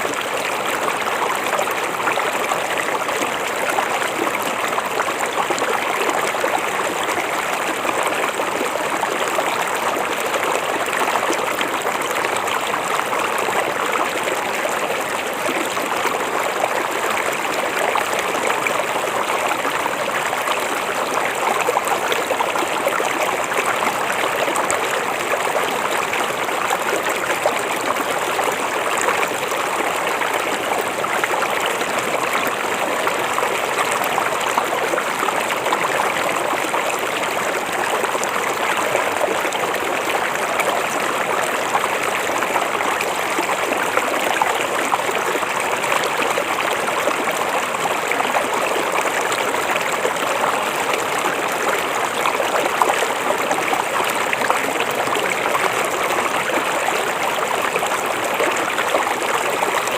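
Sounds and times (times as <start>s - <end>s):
creek flowing over rocks: 0.0s - 59.9s.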